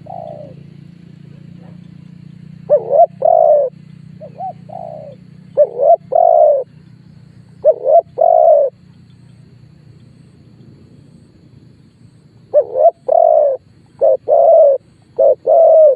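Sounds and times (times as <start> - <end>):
dove cooing: 0.0 - 9.5, 12.2 - 15.9
steady low hum: 0.0 - 15.9.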